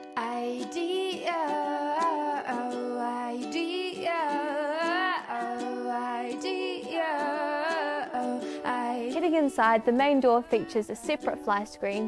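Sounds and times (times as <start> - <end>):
wordless vocal melody: 0.1 - 12.0.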